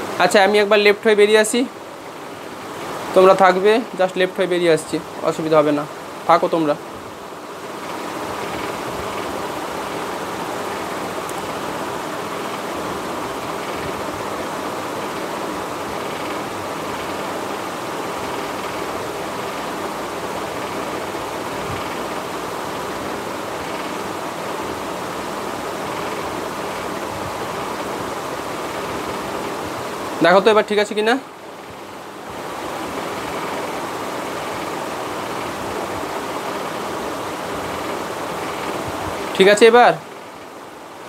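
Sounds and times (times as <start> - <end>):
room noise hiss: 0.0 - 41.0.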